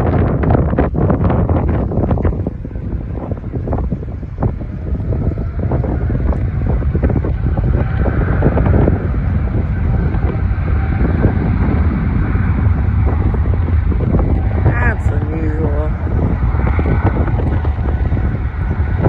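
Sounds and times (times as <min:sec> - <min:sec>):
jet airliner engines: 0:00.0 - 0:19.0
wind buffeting microphone: 0:00.0 - 0:19.0.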